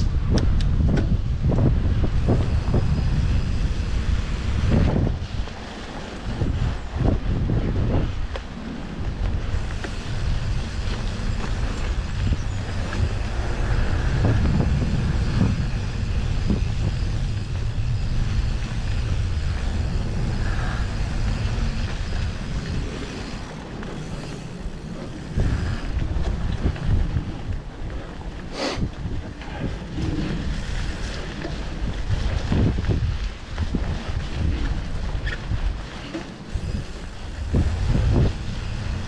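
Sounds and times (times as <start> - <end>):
low rumble of tyres on trail: 0.0 - 39.0
wind buffeting microphone: 0.0 - 39.0.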